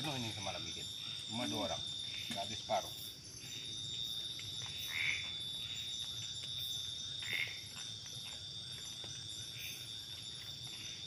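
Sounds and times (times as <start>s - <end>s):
insect chorus ringing: 0.0s - 11.0s.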